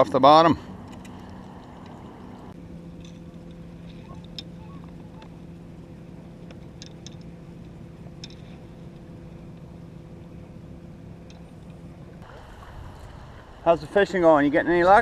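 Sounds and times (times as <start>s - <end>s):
low rumble: 0.0s - 14.8s
low motor drone: 0.0s - 15.0s.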